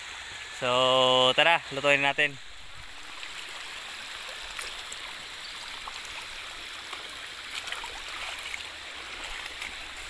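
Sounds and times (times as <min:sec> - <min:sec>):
creek water trickling over stones: 0:00.0 - 0:10.0.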